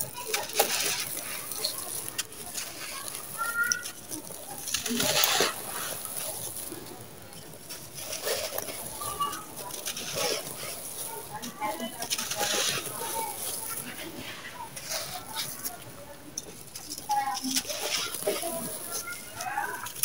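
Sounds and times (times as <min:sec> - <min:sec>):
sand crumbling in hands: 0:00.0 - 0:20.0.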